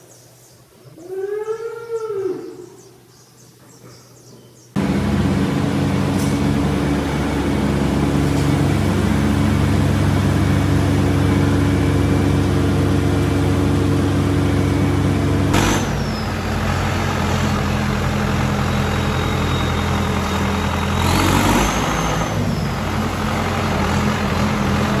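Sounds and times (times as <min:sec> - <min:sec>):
short rising and falling whine: 0:04.8 - 0:25.0
vehicle engine running: 0:04.8 - 0:25.0.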